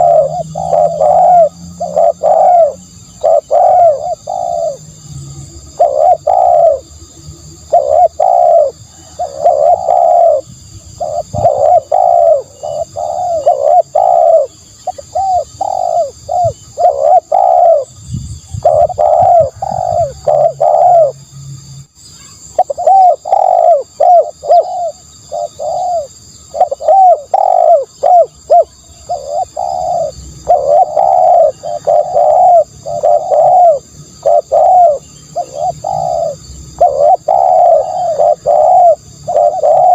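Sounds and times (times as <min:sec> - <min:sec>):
dove cooing: 0:00.0 - 0:21.2, 0:22.4 - 0:39.9.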